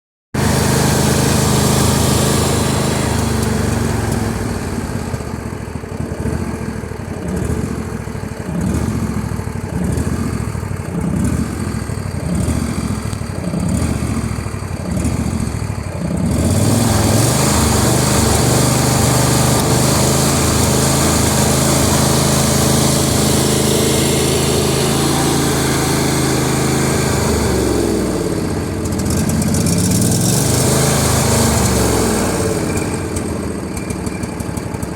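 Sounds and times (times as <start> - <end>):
lawn tractor engine running: 0.3 - 34.9.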